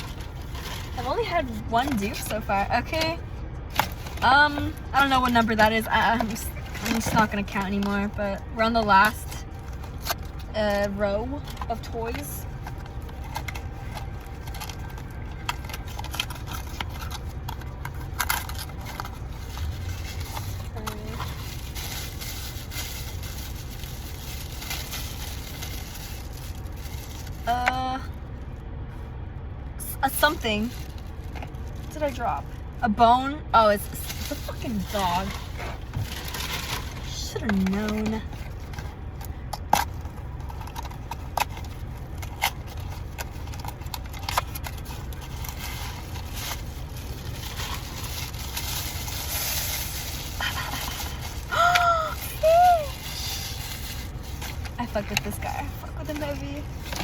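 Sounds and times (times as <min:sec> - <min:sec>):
packaging crinkling and rustling: 0:00.0 - 0:03.0, 0:03.7 - 0:27.6, 0:30.1 - 0:32.8, 0:33.8 - 0:57.0
low rumble in car cabin: 0:00.0 - 0:57.0
steady low hum: 0:00.0 - 0:57.0.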